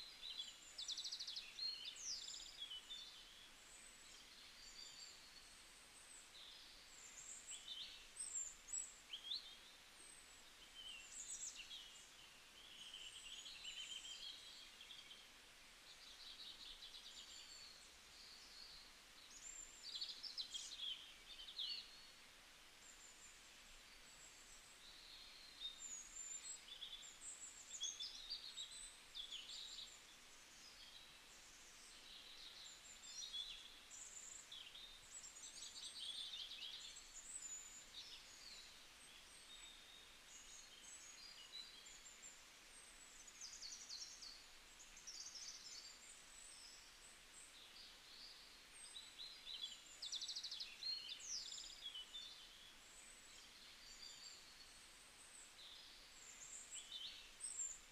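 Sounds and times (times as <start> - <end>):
low background hiss: 0.0 - 57.9
small birds chirping: 0.0 - 57.9.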